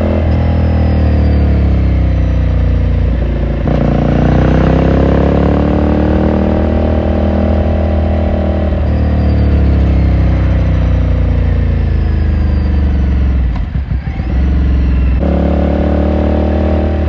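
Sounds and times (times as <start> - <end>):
motorcycle engine and exhaust: 0.0 - 17.0.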